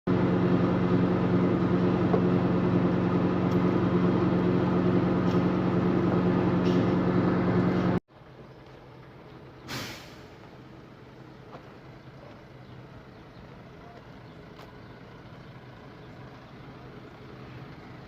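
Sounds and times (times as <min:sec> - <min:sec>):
heavy diesel engine running: 0:00.1 - 0:18.0.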